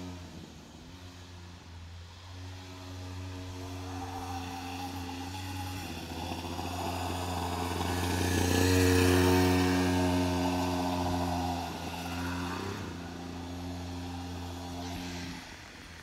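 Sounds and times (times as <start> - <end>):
dirt bike engine running: 2.1 - 16.0.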